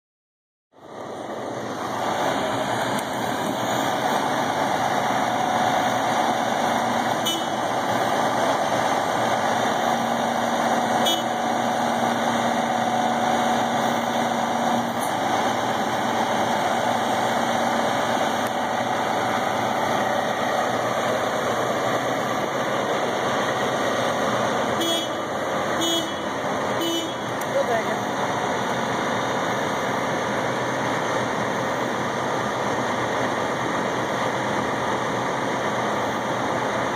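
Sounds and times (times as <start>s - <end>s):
truck engine running: 0.8s - 36.9s.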